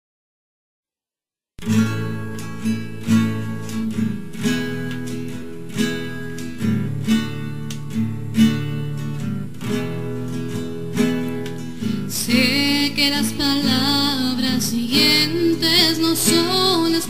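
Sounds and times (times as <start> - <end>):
acoustic guitar strumming: 1.6 - 17.0.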